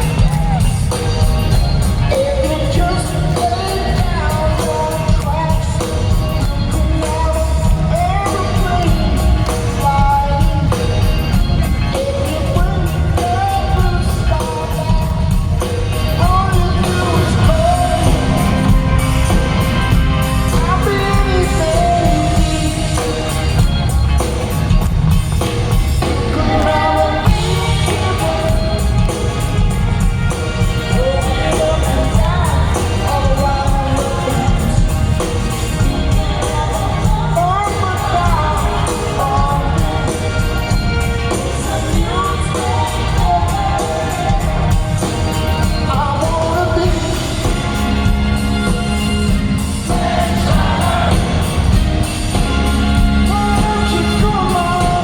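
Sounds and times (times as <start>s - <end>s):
person singing: 0.0s - 24.8s, 26.0s - 48.9s, 49.9s - 55.0s
heavy steady bass: 0.0s - 55.0s
live rock band playing: 0.0s - 55.0s.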